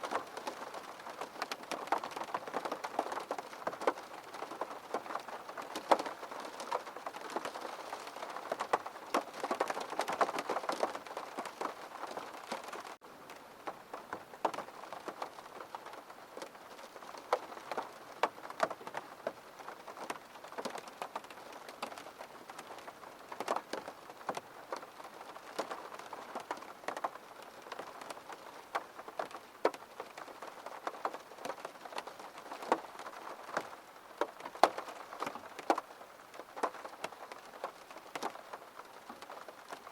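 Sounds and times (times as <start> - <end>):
rain tapping on window glass: 0.0 - 39.9.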